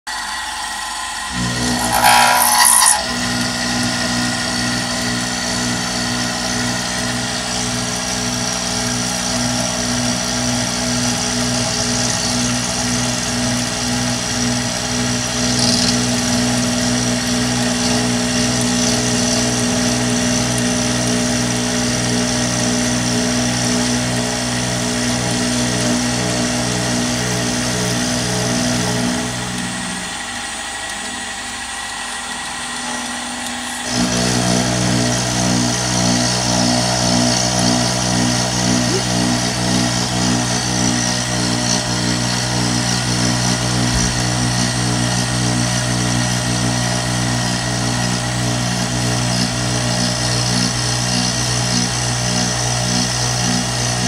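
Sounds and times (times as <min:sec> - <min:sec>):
milling machine motor drone: 0:00.1 - 0:54.0.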